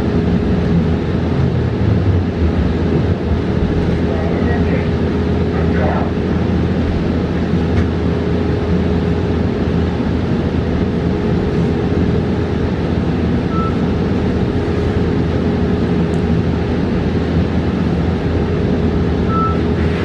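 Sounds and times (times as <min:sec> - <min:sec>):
constant hum: 0:00.0 - 0:20.0
road and tyre rumble: 0:00.0 - 0:20.0.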